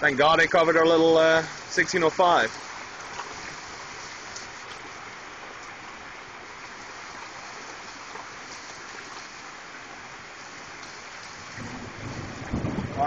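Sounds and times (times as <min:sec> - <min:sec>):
runoff water streaming: 0:00.0 - 0:13.0
torrential rain: 0:00.0 - 0:13.0.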